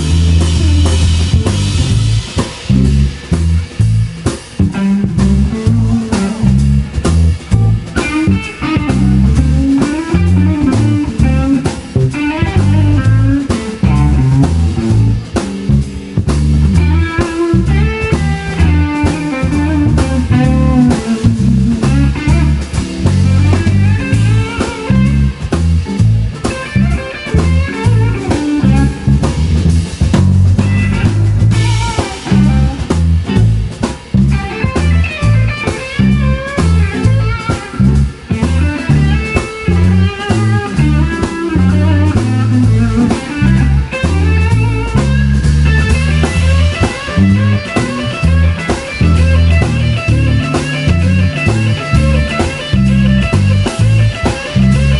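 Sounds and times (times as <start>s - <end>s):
drum kit keeping time: 0.0s - 54.9s
electric guitar lines: 0.0s - 54.9s
heavy bass guitar line: 0.0s - 54.9s.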